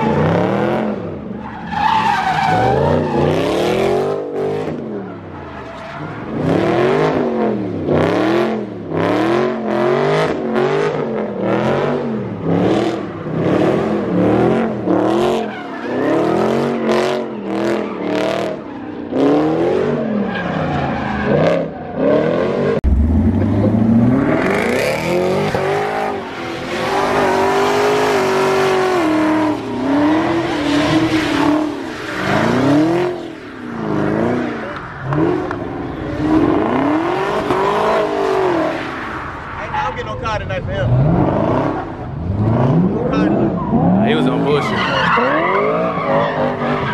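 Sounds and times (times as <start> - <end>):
car engine revving: 0.0 - 46.9
tires squealing: 0.0 - 46.9.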